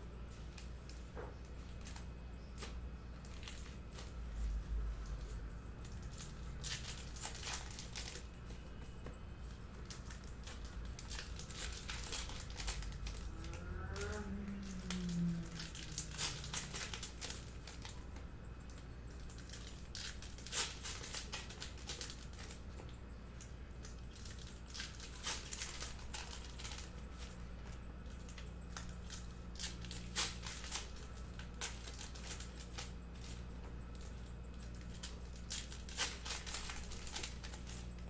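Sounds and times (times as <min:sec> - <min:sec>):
steady low hum: 0:00.0 - 0:38.0
card pack wrappers tearing and crinkling: 0:00.4 - 0:22.8, 0:23.4 - 0:38.0.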